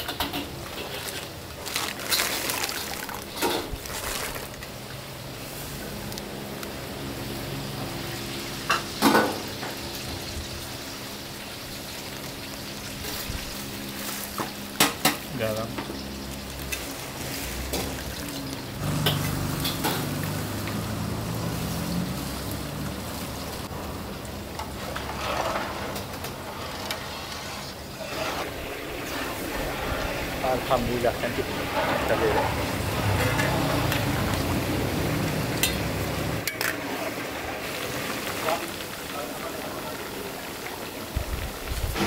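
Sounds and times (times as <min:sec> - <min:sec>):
cooking hiss: 0:00.0 - 0:42.0.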